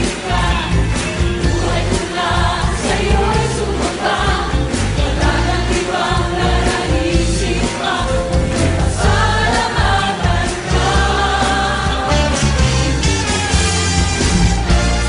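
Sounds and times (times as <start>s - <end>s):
voices singing over a band: 0.0s - 12.8s.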